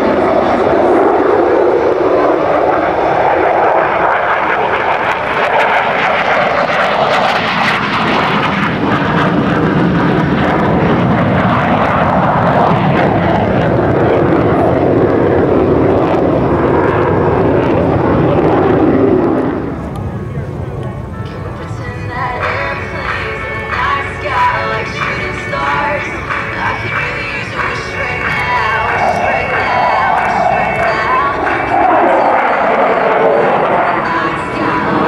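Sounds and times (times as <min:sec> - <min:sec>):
jet flying past: 0:00.0 - 0:35.0.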